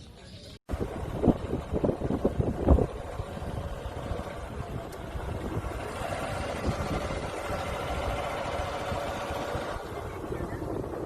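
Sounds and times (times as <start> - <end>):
motor running: 0.7 - 10.8
wind buffeting microphone: 0.7 - 11.0.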